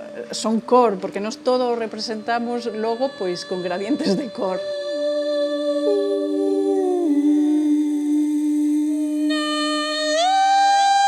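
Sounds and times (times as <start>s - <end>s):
layered held notes with pitch slides: 0.0s - 11.0s.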